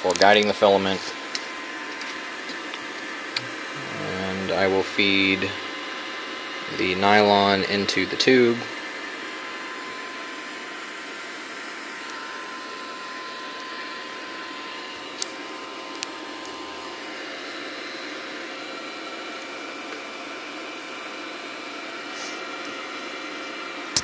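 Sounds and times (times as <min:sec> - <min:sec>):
fan whirring: 0:00.0 - 0:24.0.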